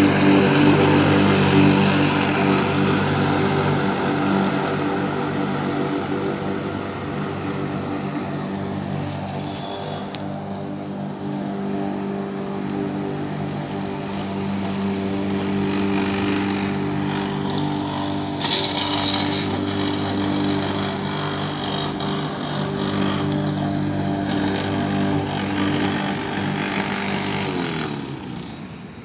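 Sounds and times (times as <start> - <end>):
hiss of cutting grass: 0.0 - 28.8
electric lawn mower running: 0.0 - 29.0.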